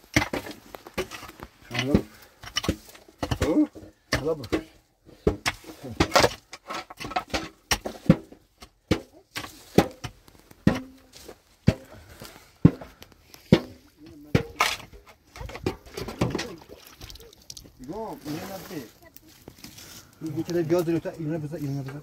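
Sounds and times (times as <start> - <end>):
irregular knocks and clatters: 0.0 - 18.8.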